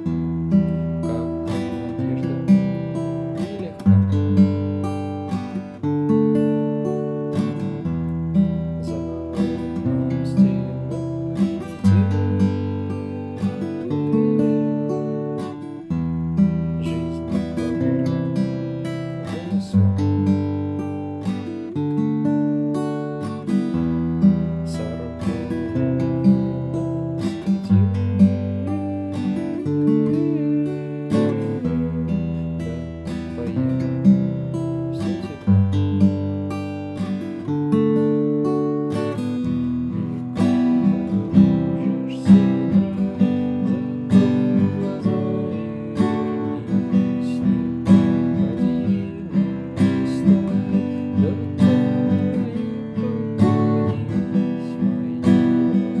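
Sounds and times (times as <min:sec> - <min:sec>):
acoustic guitar strumming chords: 0:00.0 - 0:56.0.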